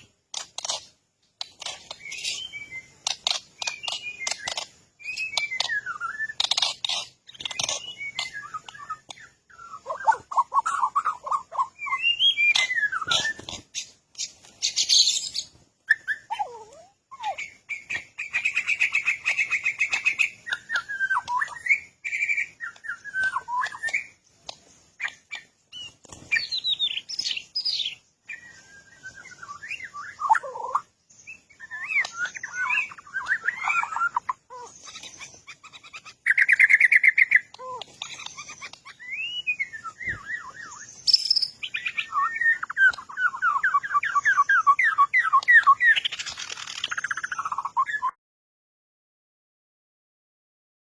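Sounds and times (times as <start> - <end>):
birds chirping and whistling: 0.0 - 48.2
buzzy bird trill: 0.0 - 48.2.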